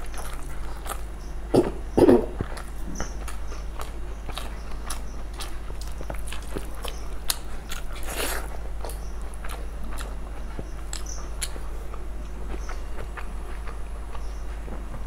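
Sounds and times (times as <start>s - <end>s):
person eating with mouth clicks: 0.0s - 13.8s.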